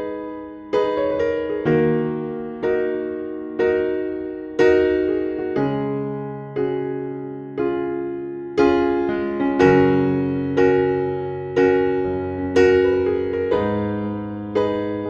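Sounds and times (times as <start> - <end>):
piano playing sustained chords: 0.0 - 15.0.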